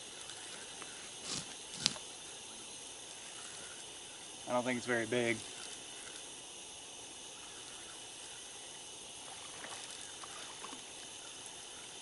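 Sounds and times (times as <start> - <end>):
faint outdoor night hiss: 0.0 - 12.0.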